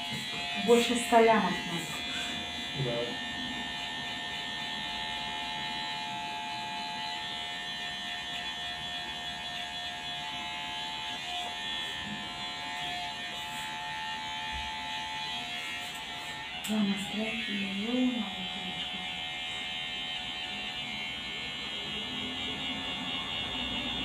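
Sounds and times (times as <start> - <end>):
electric hair clippers buzzing: 0.0 - 24.0.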